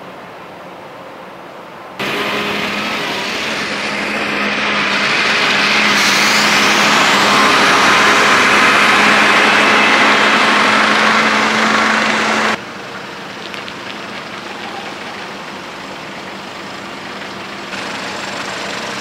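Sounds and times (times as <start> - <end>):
truck engine passing: 2.0 - 19.0.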